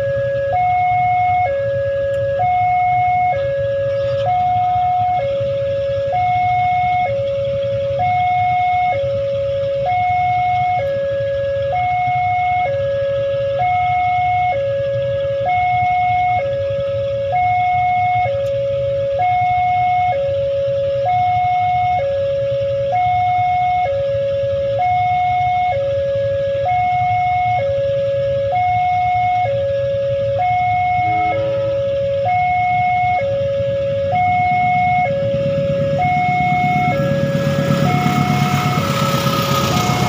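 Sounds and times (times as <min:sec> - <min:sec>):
two-tone level crossing alarm: 0:00.0 - 0:40.0.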